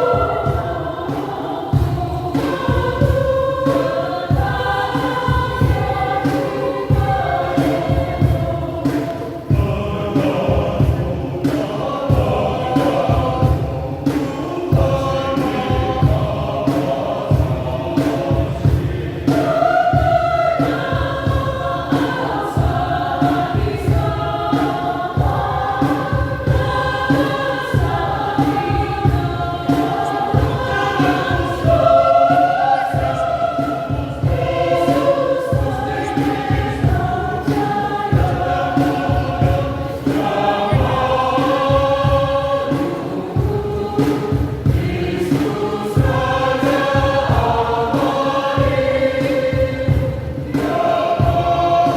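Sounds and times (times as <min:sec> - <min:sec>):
church choir singing: 0:00.0 - 0:51.9.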